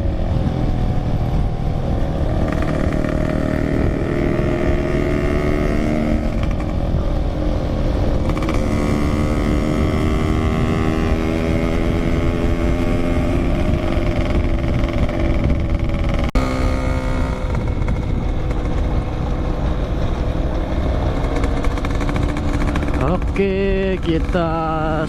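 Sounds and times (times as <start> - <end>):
wind noise: 0.0 - 25.0
two-stroke motorcycle engine running: 2.0 - 7.0, 7.9 - 25.0.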